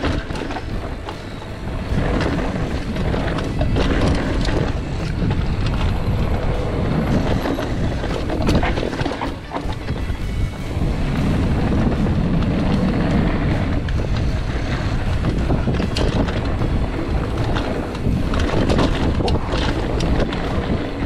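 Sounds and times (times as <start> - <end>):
bike clattering over bumps: 0.0 - 21.0
wind rushing over microphone: 0.0 - 21.0.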